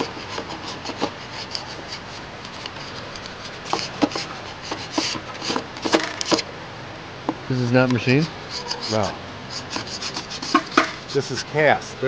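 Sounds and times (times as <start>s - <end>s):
hand rubbing and scraping: 0.0s - 6.5s, 8.0s - 12.0s.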